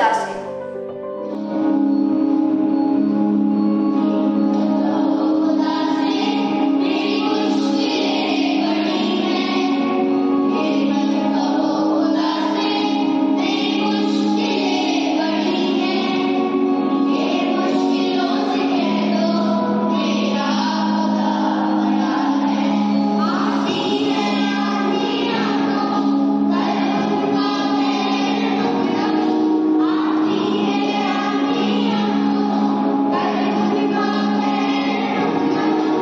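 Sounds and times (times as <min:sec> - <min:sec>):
children singing: 0:00.0 - 0:00.6, 0:01.4 - 0:36.0.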